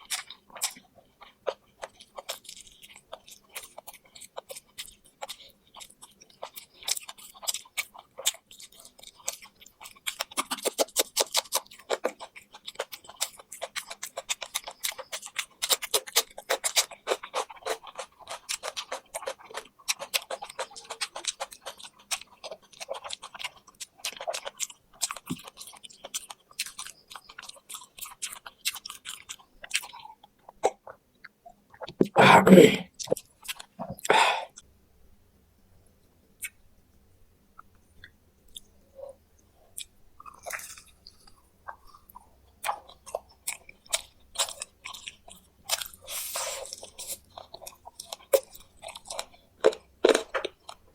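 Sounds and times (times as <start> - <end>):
chewing crispy fried food: 0.0 - 34.7, 35.8 - 50.9.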